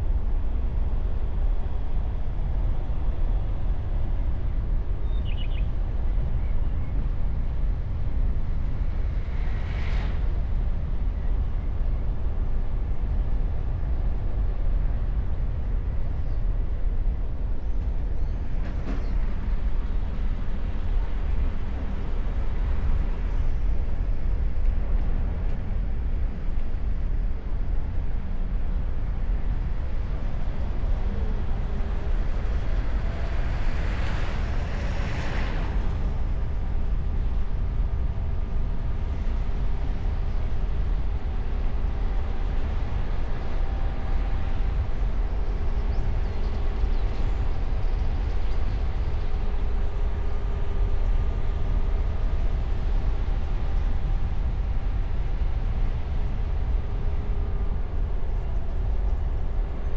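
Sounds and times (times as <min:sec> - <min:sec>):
wind and tyre noise: 0:00.0 - 0:59.9.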